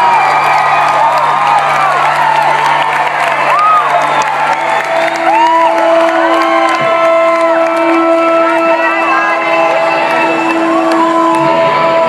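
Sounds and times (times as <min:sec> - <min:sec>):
audience cheering and whistling: 0:00.0 - 0:12.0.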